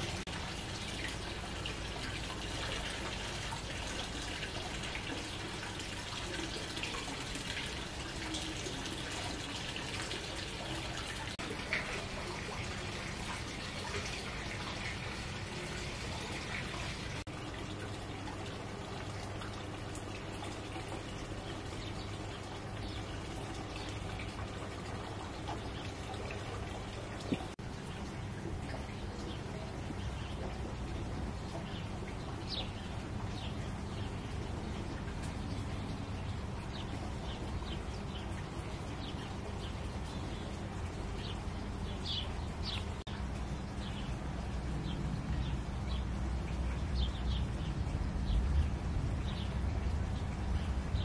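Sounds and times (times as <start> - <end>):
water trickling: 0.0 - 51.0.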